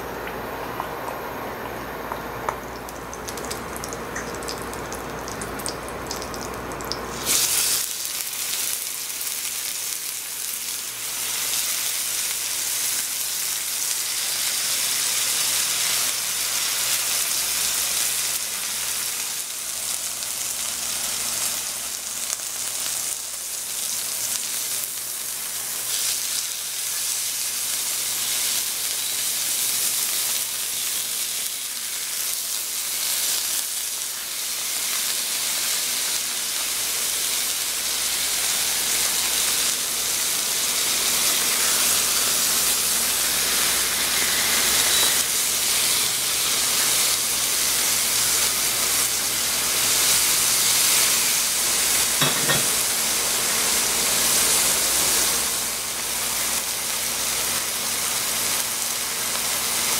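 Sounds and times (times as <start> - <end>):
steaks sizzling in a frying pan: 7.1 - 59.9.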